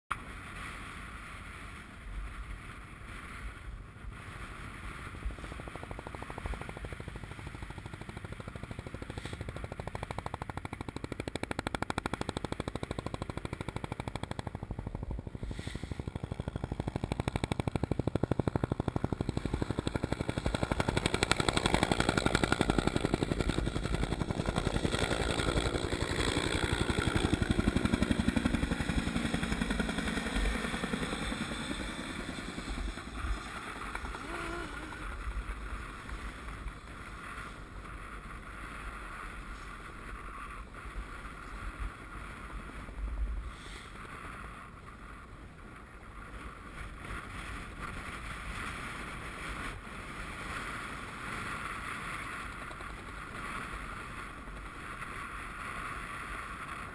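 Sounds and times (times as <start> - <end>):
helicopter flying past: 0.2 - 56.9.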